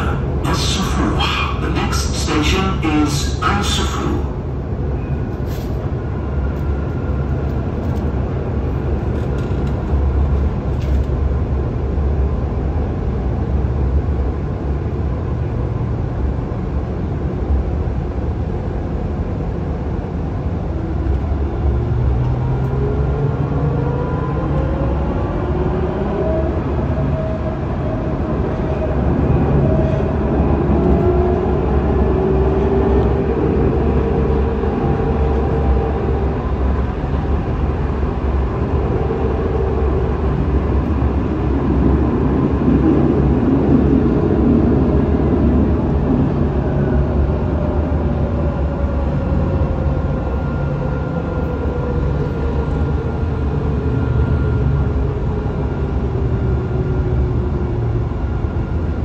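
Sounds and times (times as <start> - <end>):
tram wheels rumbling: 0.0 - 59.0.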